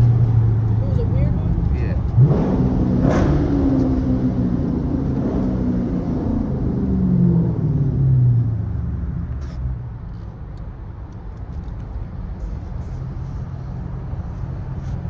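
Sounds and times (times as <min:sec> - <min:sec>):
car exhaust low drone: 0:00.0 - 0:10.5, 0:11.4 - 0:15.0.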